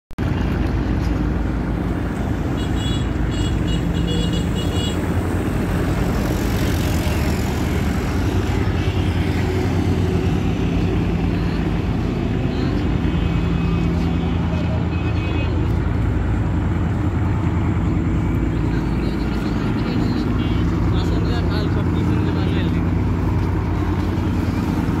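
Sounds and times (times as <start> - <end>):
boat engine drone: 0.2 - 25.0.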